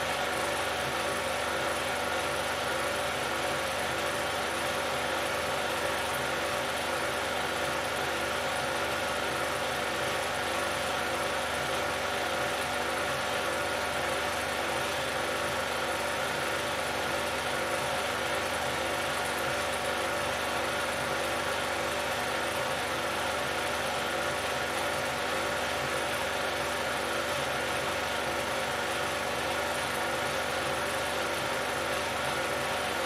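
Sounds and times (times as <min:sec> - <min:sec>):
film projector whirring: 0:00.0 - 0:33.0.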